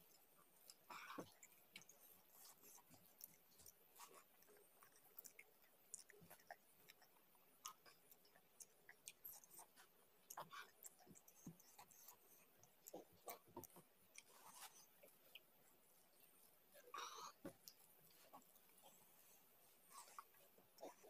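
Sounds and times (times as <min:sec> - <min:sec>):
mouth smacking and chewing: 0:00.0 - 0:21.0.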